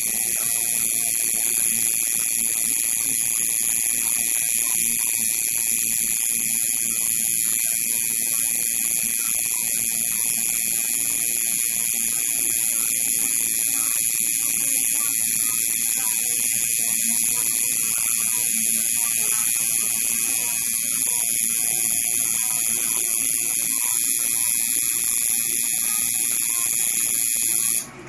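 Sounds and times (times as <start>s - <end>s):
tattoo machine buzzing: 0.0s - 28.0s.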